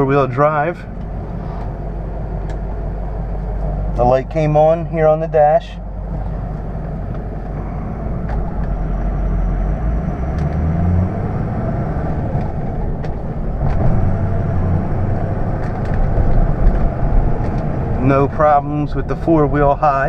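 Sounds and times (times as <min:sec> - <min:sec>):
diesel truck engine: 0:00.0 - 0:20.0.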